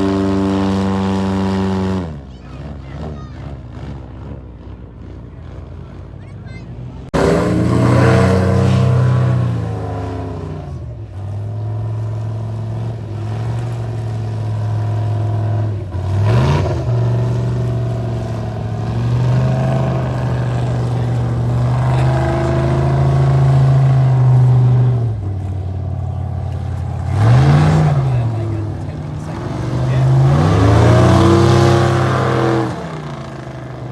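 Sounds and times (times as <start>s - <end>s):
airboat engines racing: 0.0s - 33.9s.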